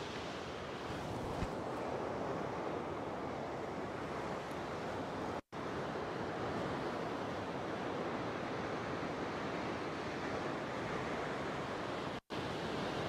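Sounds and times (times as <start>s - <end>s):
sea surf breaking over rocks: 0.0s - 13.0s.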